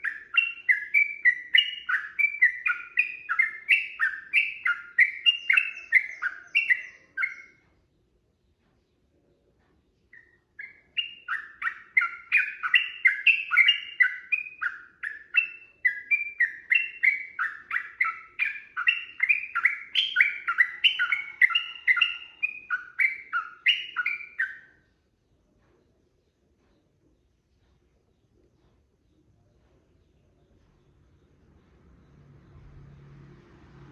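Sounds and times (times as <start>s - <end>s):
bird chirping song: 0.0s - 33.9s.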